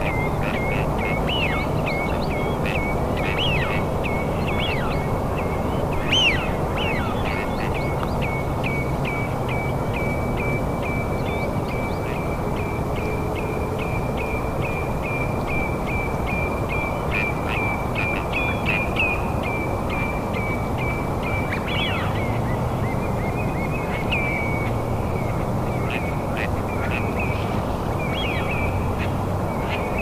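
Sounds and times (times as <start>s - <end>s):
bird chirping: 0.0s - 30.0s
other bird chirping calls: 0.0s - 30.0s.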